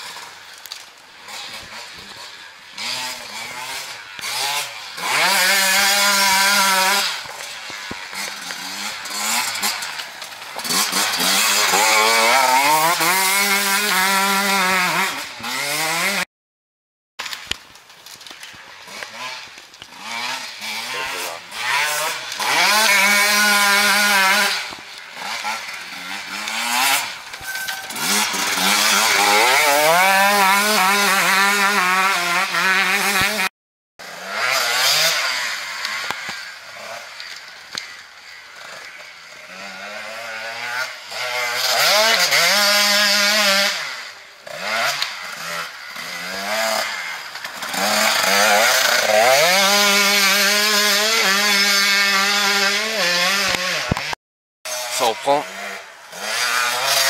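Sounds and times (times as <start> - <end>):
dirt bike engine revving: 0.0 - 16.3, 18.6 - 57.0.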